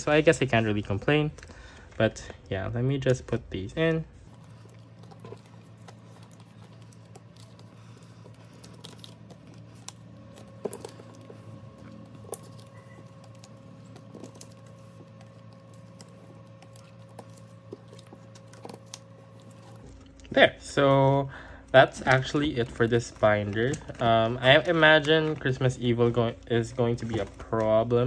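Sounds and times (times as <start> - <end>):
plastic pocket pages rustling: 0.0 - 20.2, 21.8 - 28.0
faint steady hum: 0.0 - 28.0.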